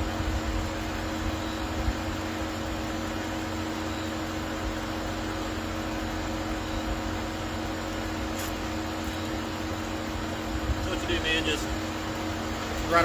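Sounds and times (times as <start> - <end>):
mechanical hum with tones: 0.0 - 13.0.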